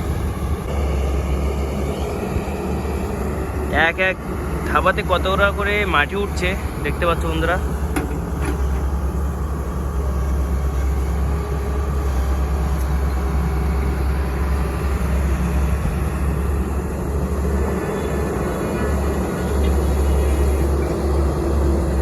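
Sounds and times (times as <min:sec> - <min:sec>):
diesel digger engine under load: 0:00.0 - 0:22.0.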